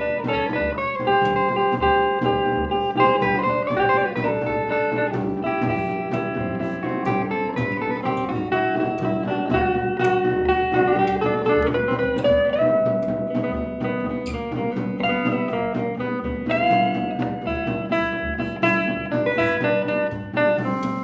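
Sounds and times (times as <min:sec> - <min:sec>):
guitar improvisation: 0:00.0 - 0:21.0
held accompaniment: 0:00.0 - 0:21.0.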